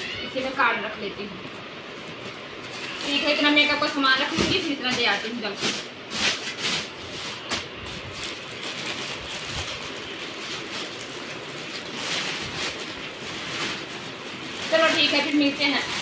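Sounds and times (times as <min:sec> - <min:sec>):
plastic bags rustling and crinkling: 0:01.5 - 0:16.0.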